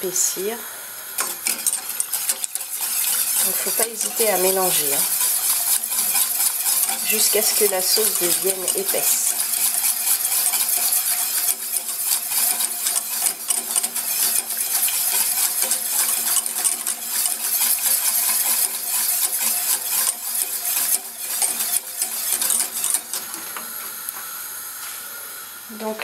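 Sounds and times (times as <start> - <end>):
steady hiss: 0.0 - 26.0
whisk scraping a saucepan: 1.2 - 23.6.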